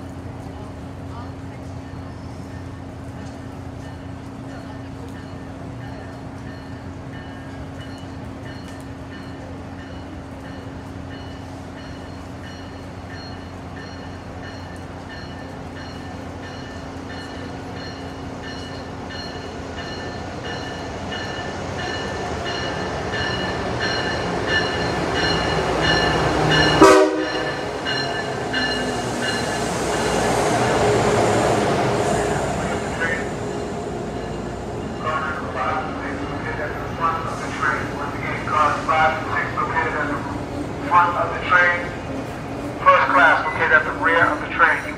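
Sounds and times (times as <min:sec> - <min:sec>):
train approaching: 0:00.0 - 0:44.9.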